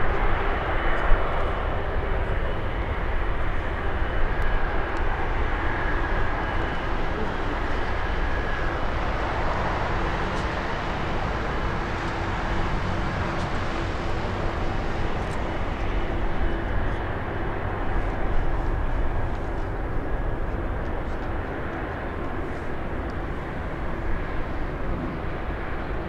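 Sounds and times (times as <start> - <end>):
jet engines taxiing: 0.0 - 26.0.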